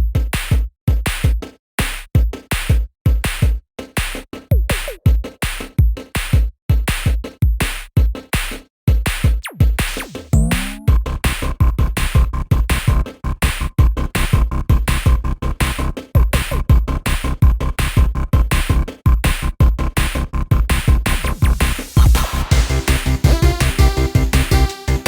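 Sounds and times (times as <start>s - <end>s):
electronic music with drum-machine beat: 0.0s - 25.0s.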